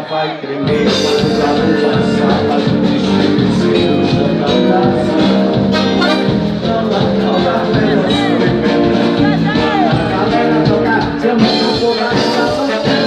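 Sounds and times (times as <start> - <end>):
live band playing amplified music: 0.0 - 13.0.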